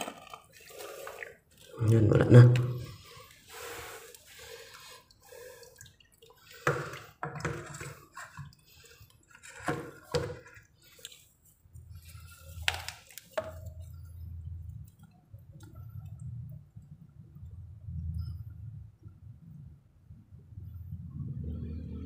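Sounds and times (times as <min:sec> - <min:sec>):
water dripping and trickling: 0:00.0 - 0:20.3.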